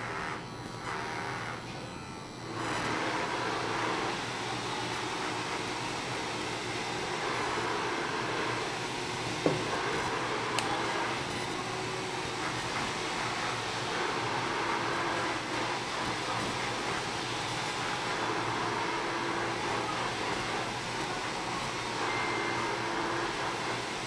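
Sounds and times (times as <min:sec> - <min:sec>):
hair clipper running: 0:00.0 - 0:24.0.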